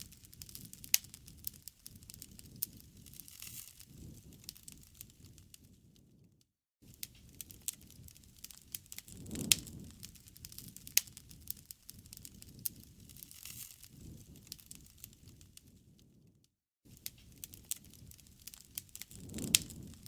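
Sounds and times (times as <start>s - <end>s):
campfire crackling and popping: 0.0s - 6.2s, 6.8s - 16.3s, 16.9s - 20.0s
low rush of flame: 0.0s - 16.3s, 16.9s - 20.0s.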